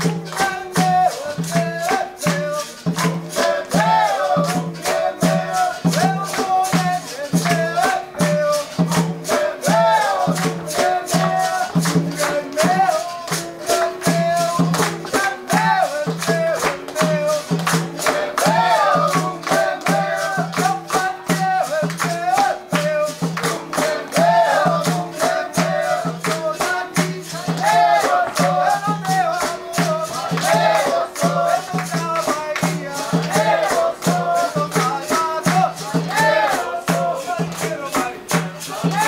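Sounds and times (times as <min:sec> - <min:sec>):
atabaque drum: 0:00.0 - 0:39.0
call-and-response singing: 0:00.0 - 0:39.0
group hand-clapping: 0:00.0 - 0:39.0
pandeiros: 0:00.0 - 0:39.0.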